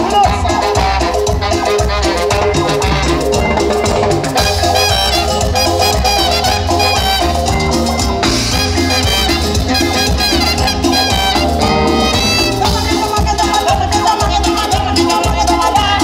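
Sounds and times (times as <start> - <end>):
bass: 0.0 - 16.0
latin percussion beat: 0.0 - 16.0
saxophone lead: 0.2 - 16.0.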